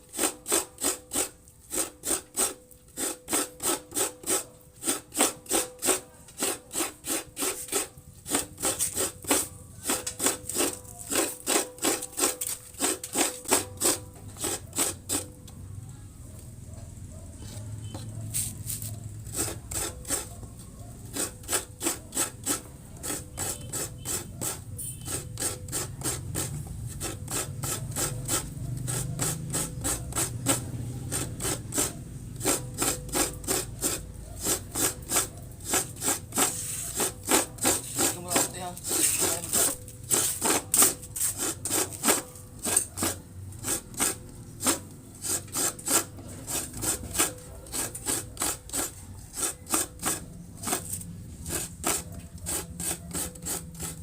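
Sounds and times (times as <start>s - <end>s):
coconut grater rasping: 0.0s - 15.6s, 17.4s - 54.0s.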